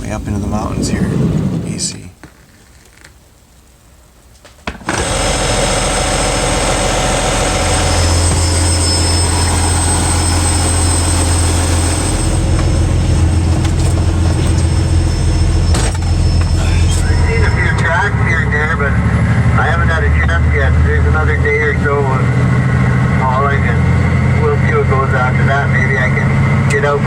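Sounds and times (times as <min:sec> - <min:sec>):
diesel truck engine running: 0:04.9 - 0:27.0
low hum: 0:04.9 - 0:27.0.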